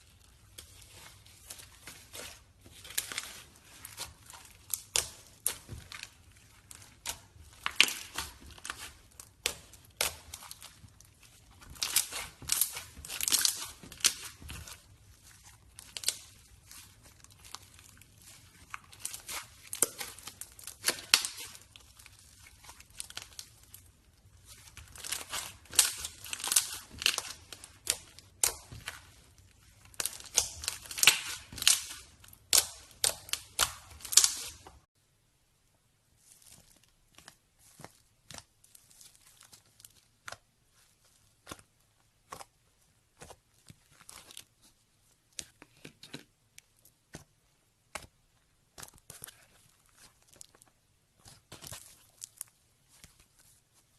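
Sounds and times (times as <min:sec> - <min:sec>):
slime crackling and popping: 0:00.0 - 0:34.9, 0:36.2 - 0:53.9.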